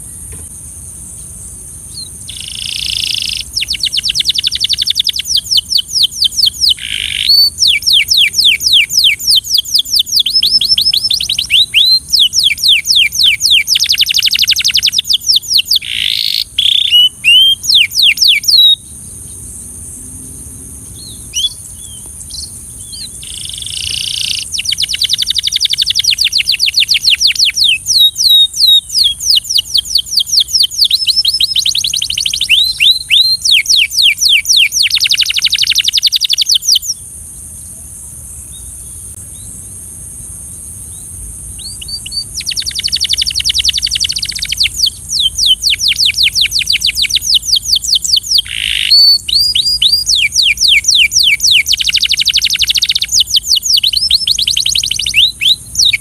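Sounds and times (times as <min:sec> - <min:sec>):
canary singing trills: 0:01.8 - 0:19.8, 0:20.8 - 0:37.1, 0:40.9 - 0:56.0.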